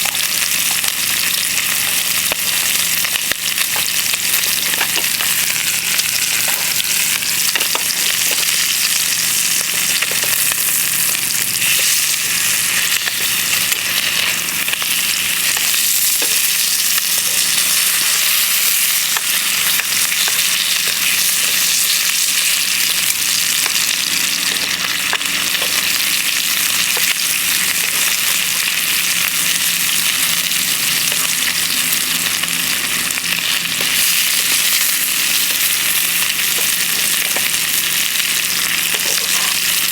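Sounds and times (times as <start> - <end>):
food sizzling in frying pan: 0.0 - 39.9.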